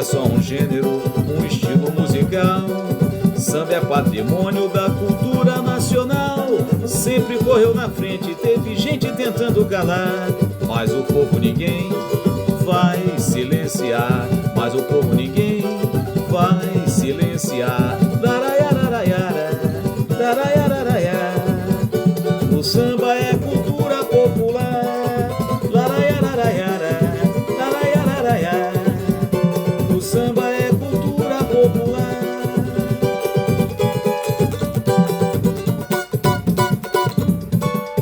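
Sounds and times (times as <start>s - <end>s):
person singing la la la: 0.0s - 35.3s
plucked strings: 0.0s - 38.0s
shaker rhythm: 0.0s - 38.0s.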